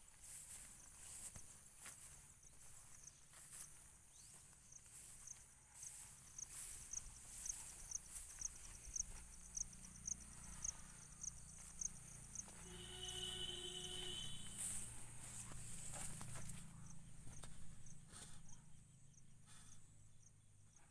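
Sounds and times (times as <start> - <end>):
cricket chirping: 0.2 - 20.9.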